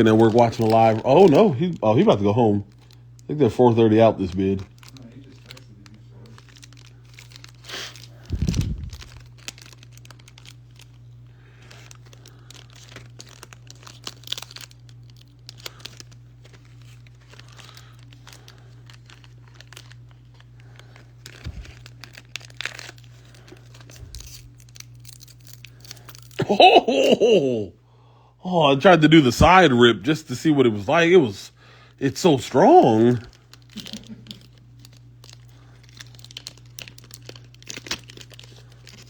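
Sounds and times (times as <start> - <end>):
wrapper crinkling and tearing: 0.0 - 27.3, 30.4 - 39.0
steady low hum: 0.0 - 39.0.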